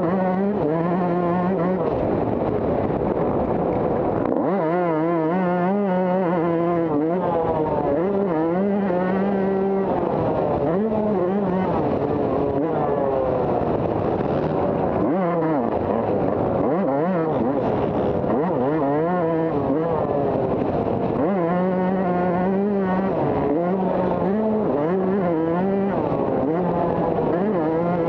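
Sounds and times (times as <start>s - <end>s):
motocross bike engine revving: 0.0s - 28.0s.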